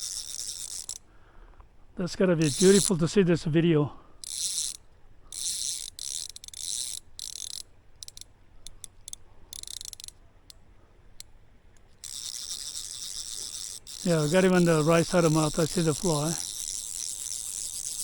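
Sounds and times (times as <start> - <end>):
fishing reel ratcheting: 0.0 - 1.1, 2.4 - 3.1, 4.2 - 18.0.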